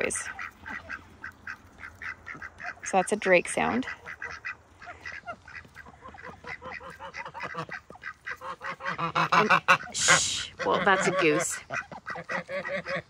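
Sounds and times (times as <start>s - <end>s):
drakes chattering raspy calls: 0.0s - 13.0s.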